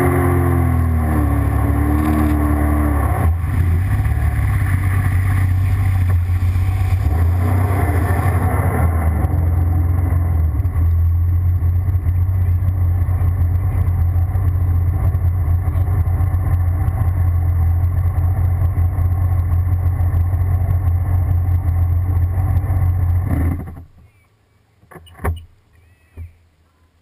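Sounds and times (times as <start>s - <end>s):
jet ski engine idling: 0.0s - 8.4s, 9.1s - 23.3s.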